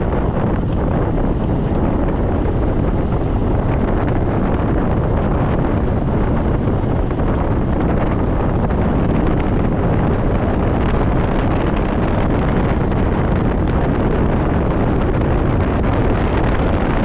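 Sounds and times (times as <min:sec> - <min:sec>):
scooter running noise: 0:00.0 - 0:17.0
wind buffeting microphone: 0:00.0 - 0:17.0.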